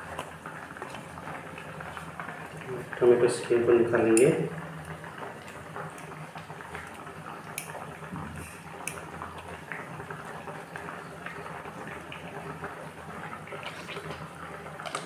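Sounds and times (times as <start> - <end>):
curry bubbling in a pot: 0.0 - 15.0.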